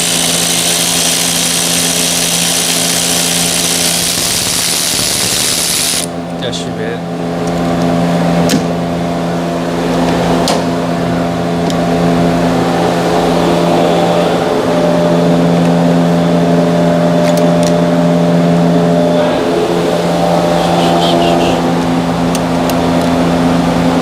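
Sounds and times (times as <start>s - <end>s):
loud motor drone: 0.0s - 24.0s.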